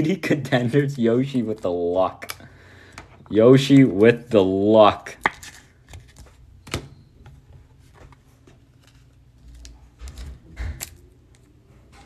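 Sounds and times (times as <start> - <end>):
cards rustling: 0.5 - 12.0.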